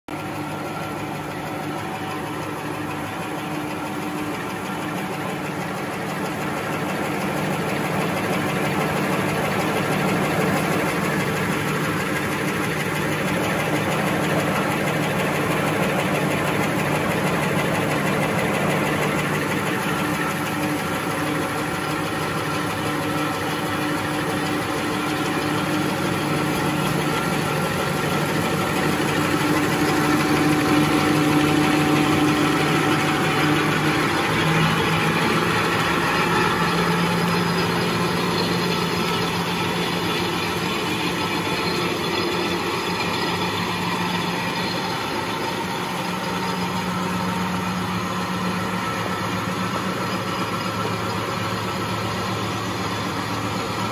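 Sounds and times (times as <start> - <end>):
machine hum: 0.1 - 53.9.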